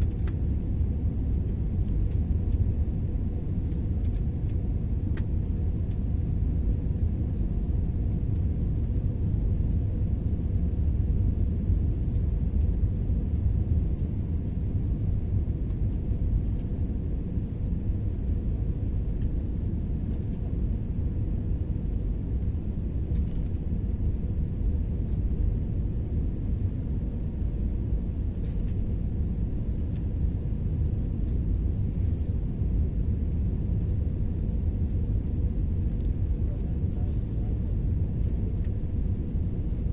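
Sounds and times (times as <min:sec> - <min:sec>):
faint steady hum: 0:00.0 - 0:39.9
jet engines low rumble: 0:00.0 - 0:39.9.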